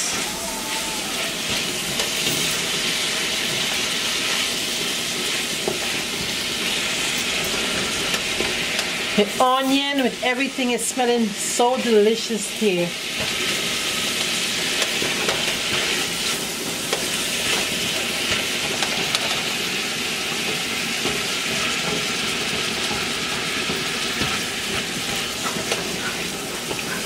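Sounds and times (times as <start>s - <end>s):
food sizzling in a pot: 0.0s - 27.0s.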